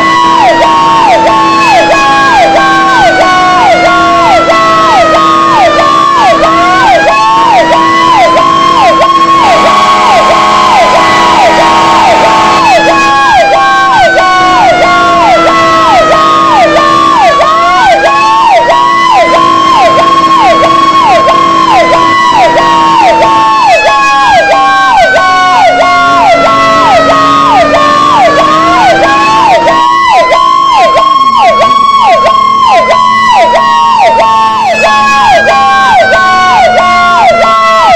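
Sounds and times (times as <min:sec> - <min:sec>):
siren wailing slowly: 0:00.0 - 0:37.9
siren with quick falling sweeps: 0:00.0 - 0:37.9.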